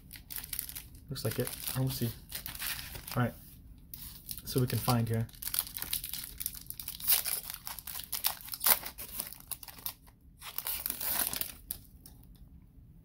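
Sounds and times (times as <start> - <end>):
foil wrapper crinkling and tearing: 0.0 - 3.3, 4.0 - 12.1.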